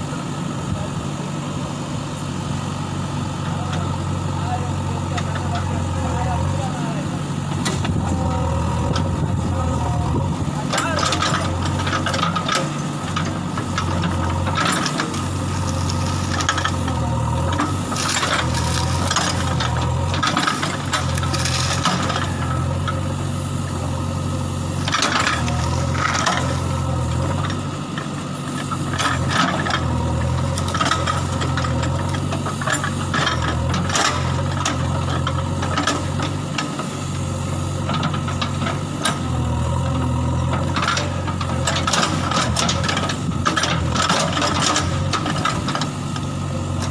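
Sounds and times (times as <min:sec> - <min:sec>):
diesel engine working under load: 0:00.0 - 0:46.9.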